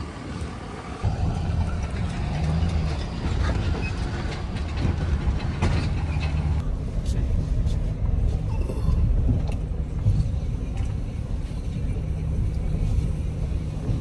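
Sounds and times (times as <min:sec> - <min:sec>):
truck engine low rumble: 0:00.0 - 0:14.0.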